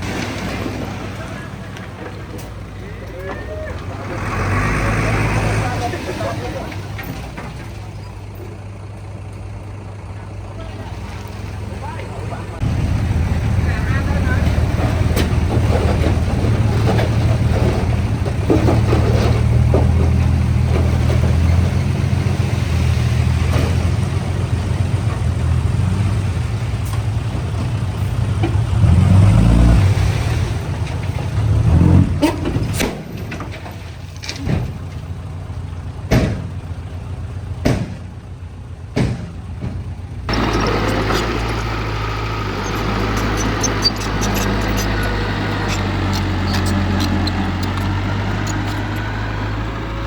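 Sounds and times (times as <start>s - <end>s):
diesel engine deep hum: 0.0s - 50.0s.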